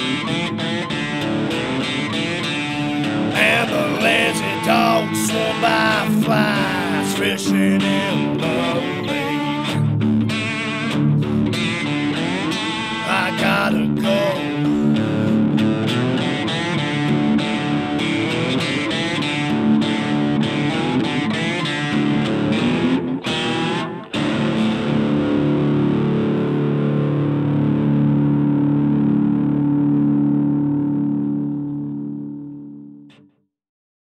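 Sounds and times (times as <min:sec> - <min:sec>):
cigar box guitar playing: 0:00.0 - 0:32.8.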